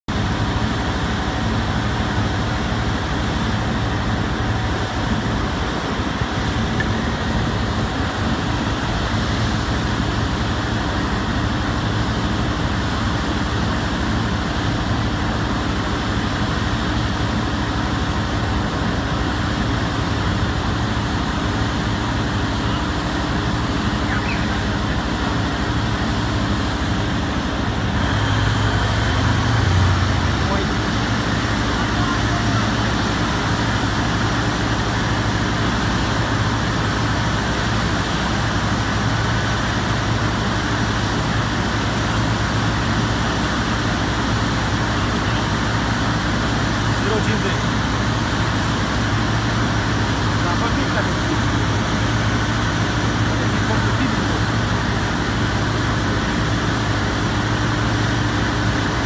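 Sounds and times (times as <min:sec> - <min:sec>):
diesel generator drone: 0:00.0 - 0:59.0.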